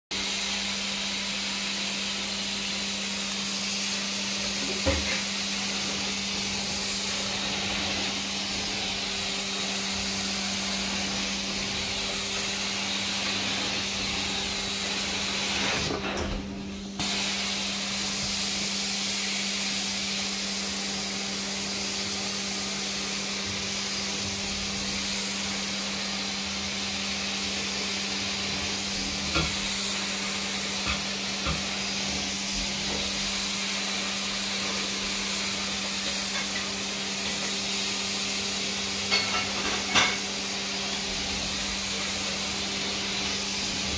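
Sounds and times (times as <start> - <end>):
carpet extraction wand hissing: 0.2 - 43.9.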